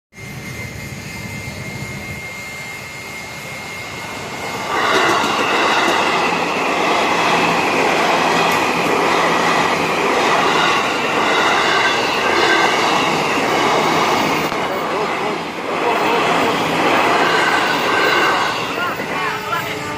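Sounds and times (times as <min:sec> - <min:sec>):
train rolling past: 0:00.1 - 0:19.9
high-pitched wheel squeal: 0:00.2 - 0:19.9.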